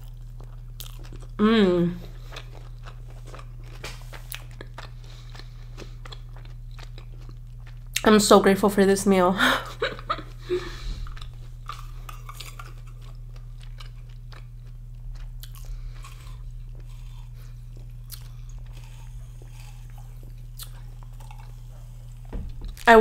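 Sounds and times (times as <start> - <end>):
chewing with mouth clicks and crunches: 0.0 - 1.4, 2.0 - 8.1, 10.8 - 23.0
low electrical hum: 0.0 - 23.0.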